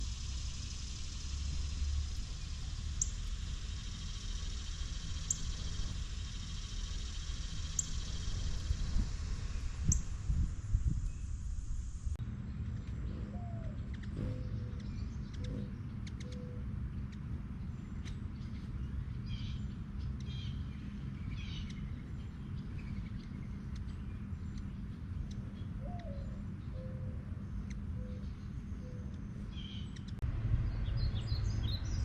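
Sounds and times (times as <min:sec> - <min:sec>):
low rumble: 0:00.0 - 0:32.0
birds whistling and chirping: 0:00.2 - 0:11.4, 0:12.8 - 0:32.0.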